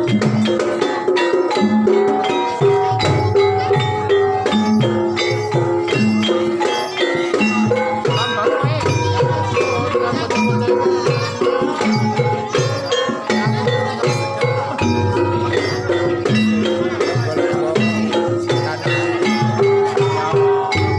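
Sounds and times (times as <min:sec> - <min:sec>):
drum strokes: 0:00.0 - 0:20.9
struck metallophone melody: 0:00.0 - 0:20.9.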